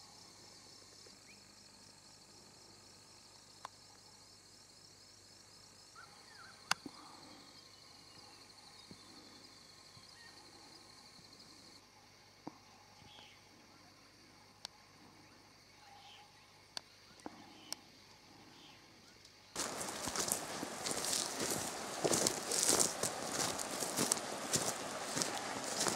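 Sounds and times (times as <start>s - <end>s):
insects chirping: 0.0s - 25.9s.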